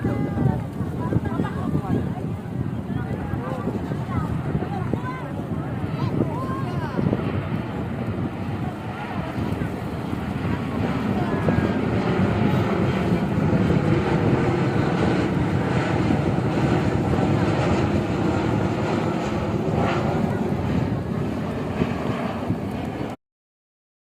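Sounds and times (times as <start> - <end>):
jet engines running: 0.0 - 23.2.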